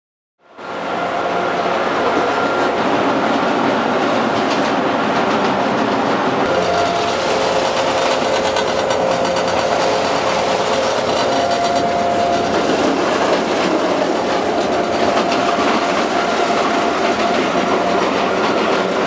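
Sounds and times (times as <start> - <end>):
diesel locomotive engine din: 0.4 - 19.0.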